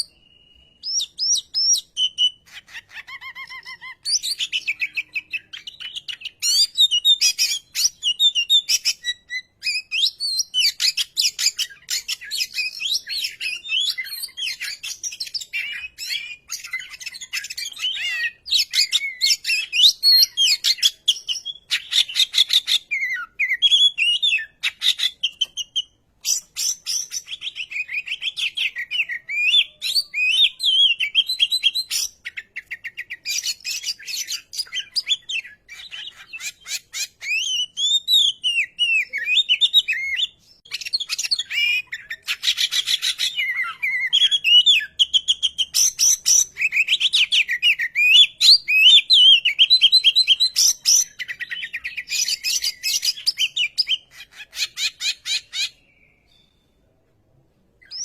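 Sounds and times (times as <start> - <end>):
songbird singing whistled phrases: 0.0 - 56.8, 57.8 - 58.0.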